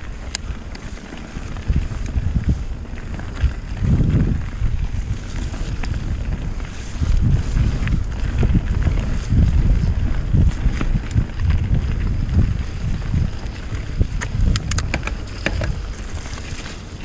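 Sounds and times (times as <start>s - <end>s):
bike knocks and rattles: 0.0s - 17.0s
tyre rumble on trail: 0.0s - 17.0s
wind buffeting microphone: 0.0s - 17.0s.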